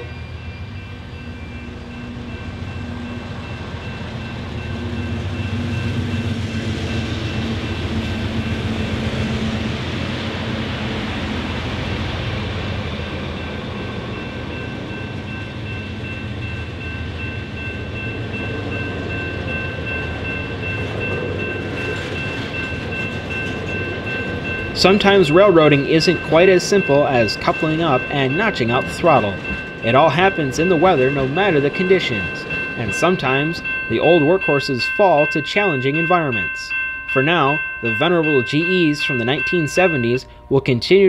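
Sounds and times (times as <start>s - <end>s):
freight cars rumbling on rails: 0.0s - 40.5s
crossing warning bells: 0.0s - 41.0s
diesel locomotive engines: 0.0s - 41.0s.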